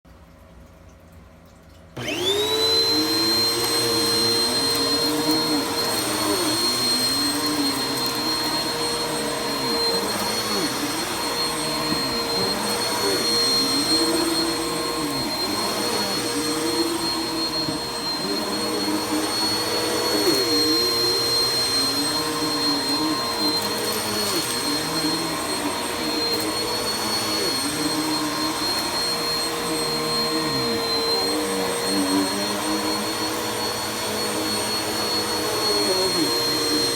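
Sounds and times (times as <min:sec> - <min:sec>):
vacuum cleaner running: 0:02.0 - 0:36.9.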